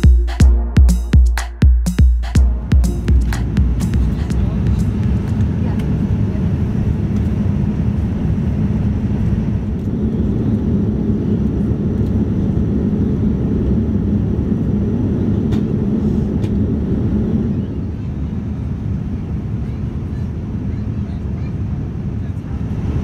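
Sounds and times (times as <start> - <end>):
airliner cabin noise: 2.4 - 23.0.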